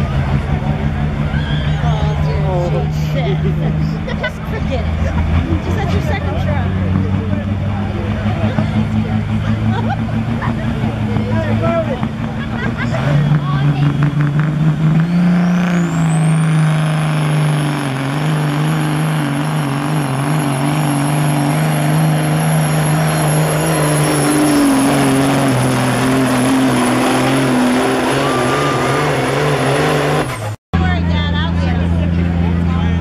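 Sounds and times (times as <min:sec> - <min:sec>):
diesel truck engine under load: 0:00.0 - 0:33.0
turbocharger whine: 0:05.8 - 0:33.0.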